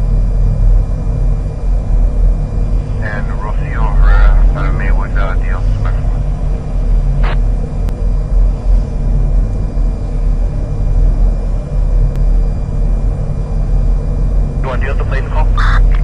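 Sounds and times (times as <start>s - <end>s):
low rumble of background ambience: 0.0s - 16.0s.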